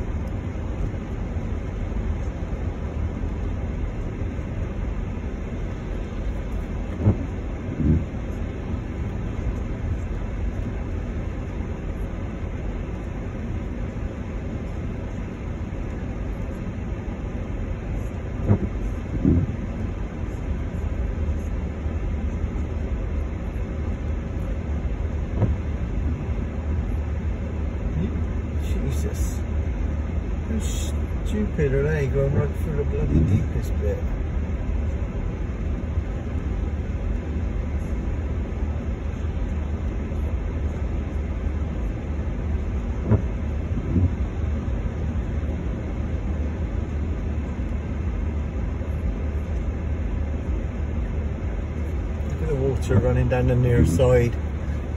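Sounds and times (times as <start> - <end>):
car cabin rumble on wet road: 0.0 - 54.9.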